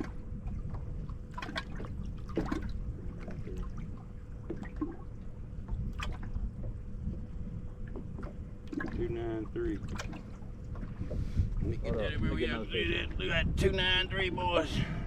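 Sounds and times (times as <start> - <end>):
water trickling and splashing: 0.0 - 13.7
wind rumble on microphone: 0.0 - 15.0.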